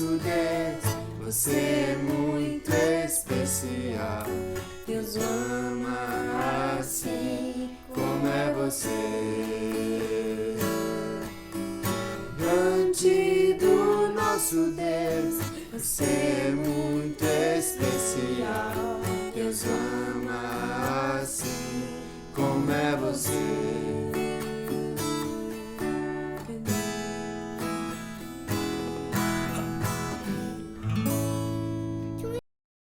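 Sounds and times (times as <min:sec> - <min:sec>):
acoustic guitar strumming: 0:00.0 - 0:32.4.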